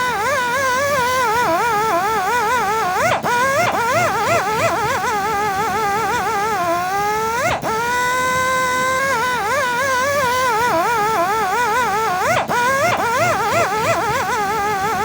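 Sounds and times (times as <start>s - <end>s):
polishing machine whining: 0.0s - 15.0s.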